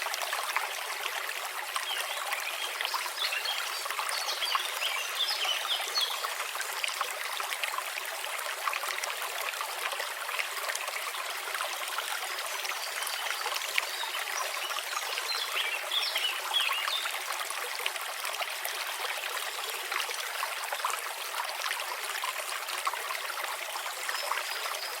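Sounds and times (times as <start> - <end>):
brook water trickling: 0.0 - 25.0.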